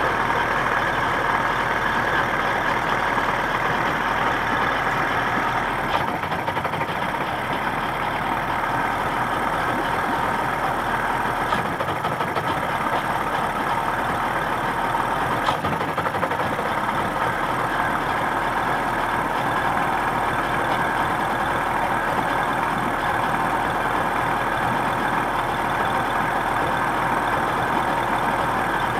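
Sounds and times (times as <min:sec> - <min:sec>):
outboard motor idling roughly: 0:00.1 - 0:28.9.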